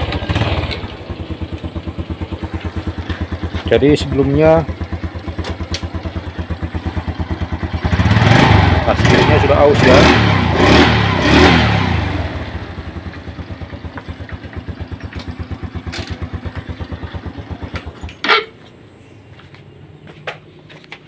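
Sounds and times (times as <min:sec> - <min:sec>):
motorcycle engine idling: 0:00.0 - 0:18.4.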